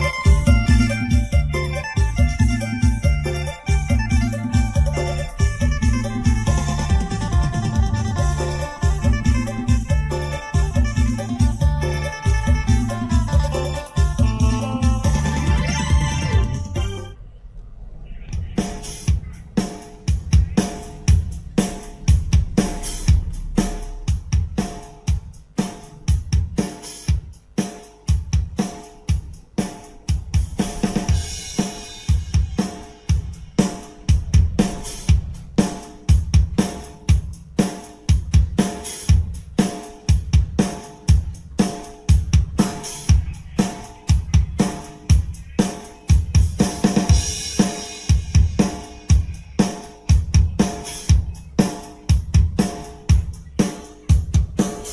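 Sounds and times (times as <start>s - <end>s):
drum-heavy music over speaker: 0.0s - 54.9s.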